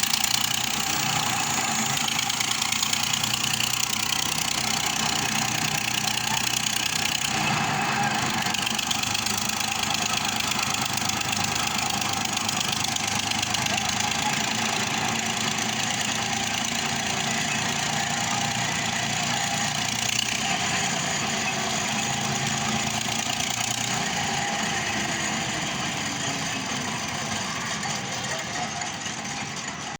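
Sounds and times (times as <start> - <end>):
construction machinery engine clattering: 0.0 - 29.9.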